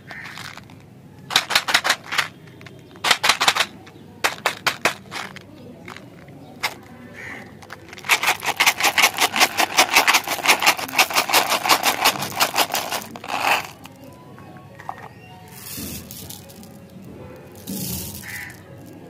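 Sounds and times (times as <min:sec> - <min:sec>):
mints clattering: 0:00.0 - 0:19.0.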